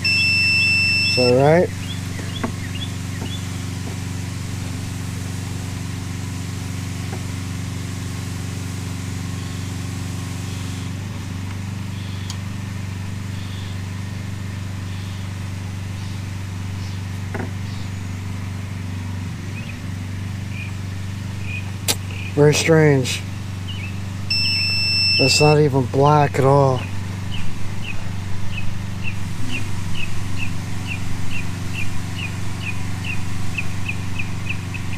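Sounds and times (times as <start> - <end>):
motor humming: 0.0 - 34.9.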